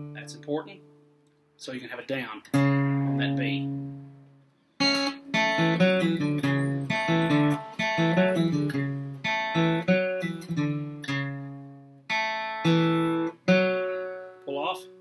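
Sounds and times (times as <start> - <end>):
acoustic guitar picked notes: 0.0 - 15.0.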